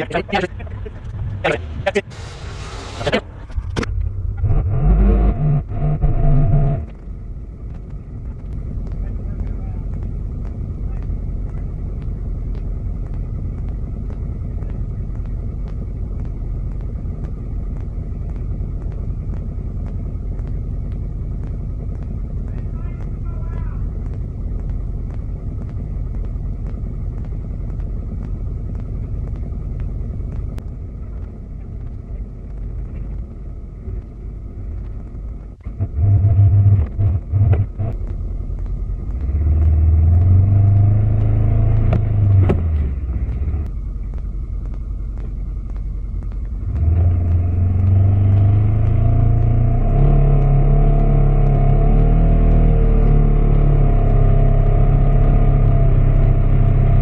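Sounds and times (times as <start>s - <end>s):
vehicle engine revving: 0.0s - 57.0s.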